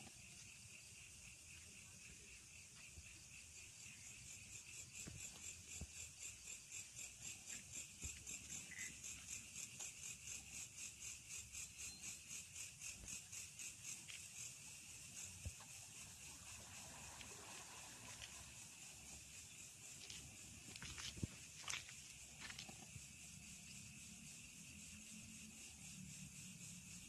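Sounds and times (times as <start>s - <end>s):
high insect trill: 0.0s - 27.0s
pulsing insect chirp: 0.0s - 27.0s.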